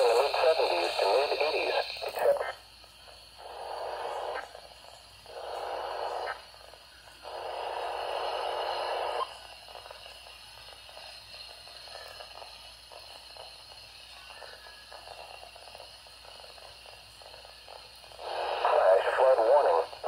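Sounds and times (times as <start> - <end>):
low radio hiss: 0.0 - 20.0
raspy digital data bursts: 0.0 - 20.0.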